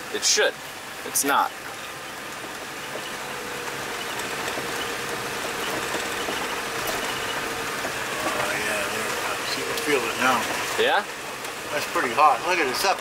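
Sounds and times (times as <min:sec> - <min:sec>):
bus engine: 0:00.0 - 0:13.0
road noise on dirt road: 0:00.0 - 0:13.0.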